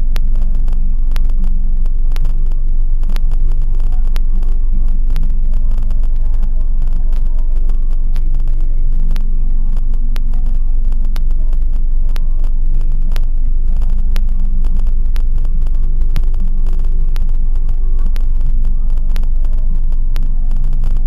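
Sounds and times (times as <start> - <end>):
car engine rumble inside cabin: 0.0 - 21.0.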